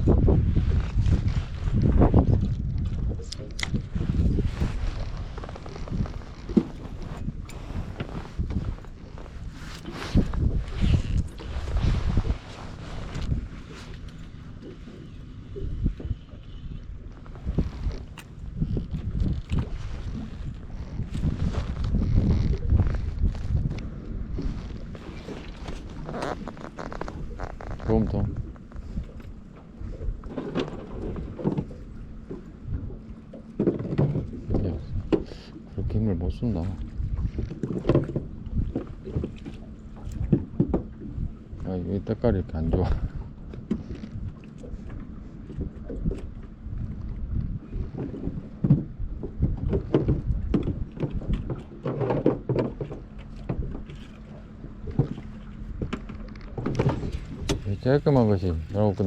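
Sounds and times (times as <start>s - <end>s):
wind noise: 0.0s - 14.0s, 15.5s - 31.8s, 33.7s - 51.8s
boat low rumble: 0.0s - 59.0s.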